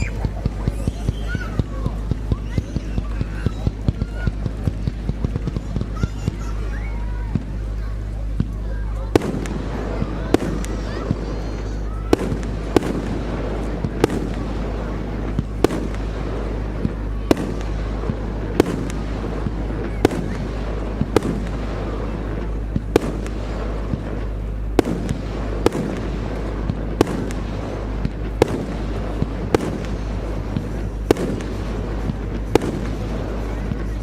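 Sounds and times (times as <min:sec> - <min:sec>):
fireworks bursting: 0:00.0 - 0:34.0
low rumble: 0:00.0 - 0:34.0.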